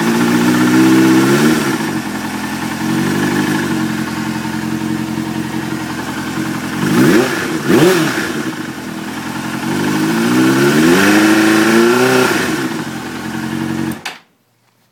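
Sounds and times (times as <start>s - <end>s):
motorcycle engine idling and revving: 0.0s - 14.1s.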